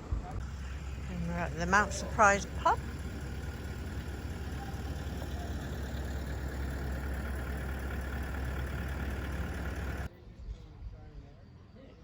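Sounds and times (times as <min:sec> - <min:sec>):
vehicle engine idling: 0:00.0 - 0:10.1.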